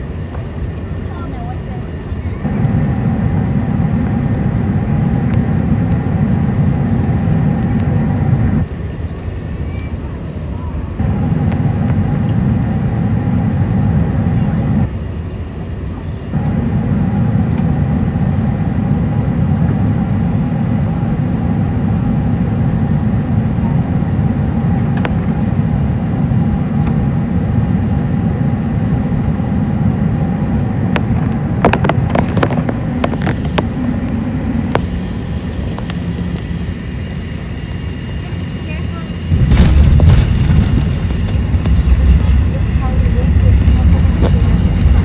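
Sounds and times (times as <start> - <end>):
engine and airflow rumble: 0.0 - 45.0
faint steady whine: 0.0 - 45.0.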